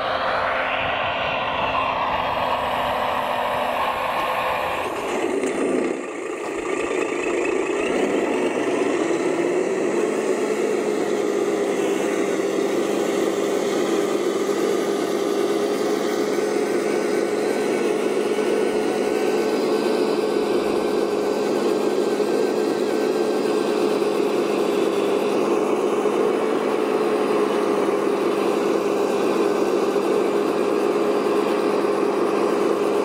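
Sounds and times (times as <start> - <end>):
model motor whining: 2.5 - 33.0.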